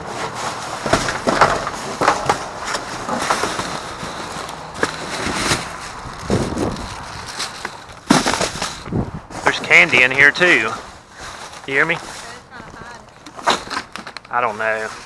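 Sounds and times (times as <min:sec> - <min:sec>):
rummaging through trash: 0:00.0 - 0:15.0.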